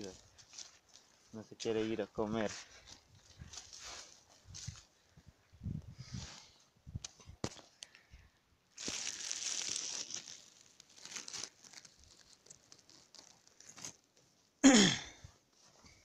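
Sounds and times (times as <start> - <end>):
grass and rope rustling on microphone: 0.0 - 14.5.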